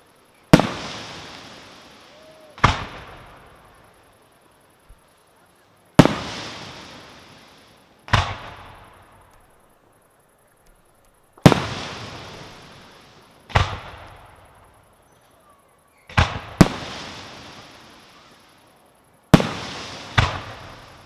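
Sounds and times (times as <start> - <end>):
firework shells bursting: 0.0 - 5.0, 5.9 - 9.8, 10.6 - 21.0.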